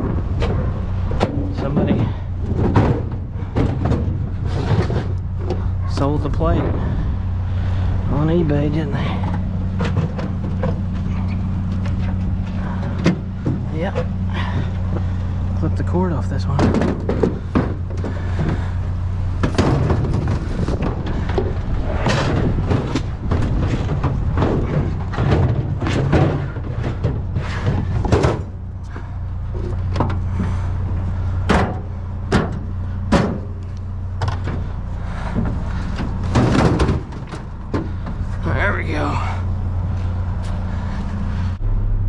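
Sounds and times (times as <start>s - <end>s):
low vehicle engine hum: 0.0s - 42.0s.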